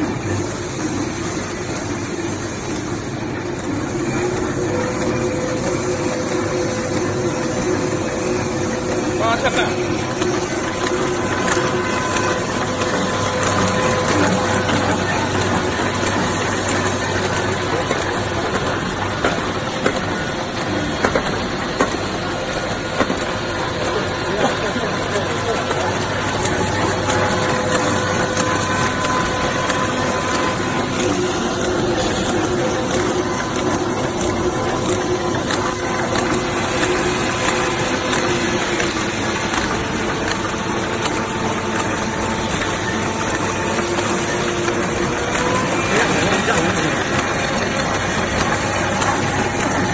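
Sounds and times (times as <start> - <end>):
rapid mechanical clatter: 0.0 - 49.9
wrapping machine whirring: 0.0 - 49.9
sharp machine clacks: 1.2 - 49.9.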